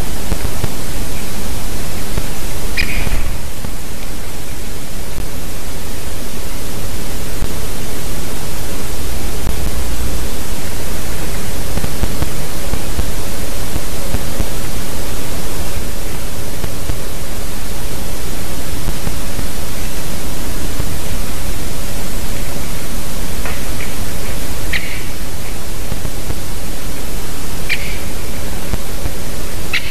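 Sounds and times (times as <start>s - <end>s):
loud steady hiss: 0.0s - 29.9s.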